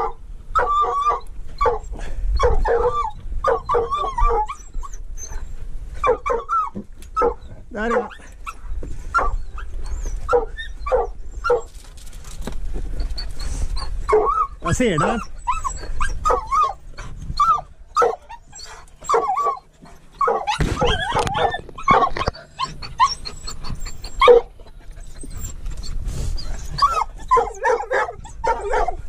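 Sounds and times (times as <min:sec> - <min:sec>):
dogs yipping and barking: 0:00.0 - 0:29.0.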